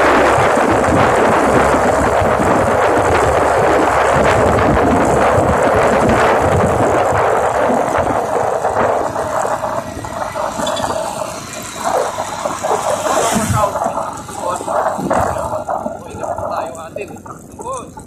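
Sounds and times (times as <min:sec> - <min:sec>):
motorcycle running: 0:00.0 - 0:18.0
wind buffeting microphone: 0:00.0 - 0:18.0.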